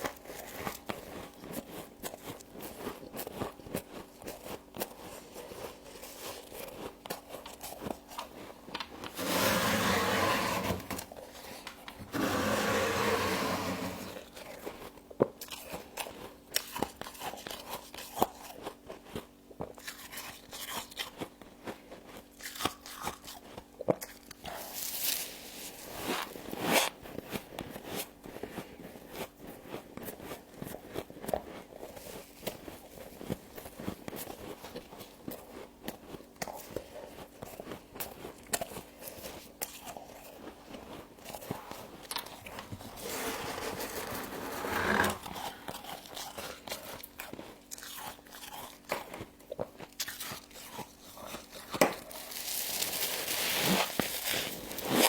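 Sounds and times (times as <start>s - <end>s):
crunching and chewing frost: 0.0s - 9.2s, 14.1s - 44.5s, 45.2s - 55.0s.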